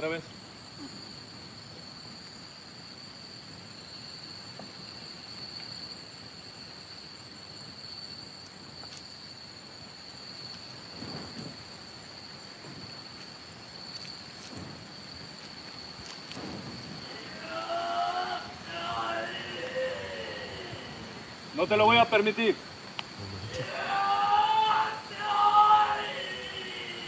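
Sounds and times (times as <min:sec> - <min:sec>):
insects droning: 0:00.0 - 0:27.0
soft hiss: 0:00.0 - 0:27.0.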